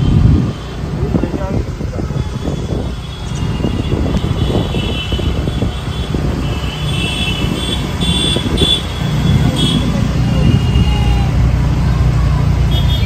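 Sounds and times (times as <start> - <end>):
wind buffeting the microphone: 0.0 - 11.6
scooter engine: 0.0 - 13.0.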